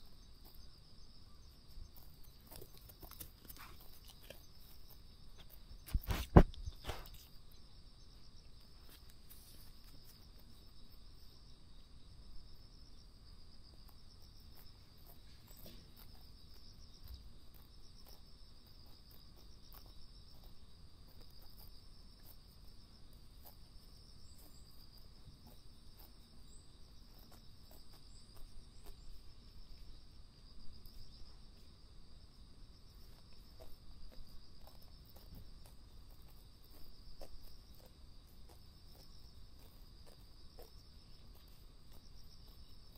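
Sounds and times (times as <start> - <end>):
deer tearing and chewing grass: 0.0 - 7.4, 8.6 - 11.4, 13.6 - 30.0, 32.8 - 42.9
insects chirring: 0.0 - 42.9.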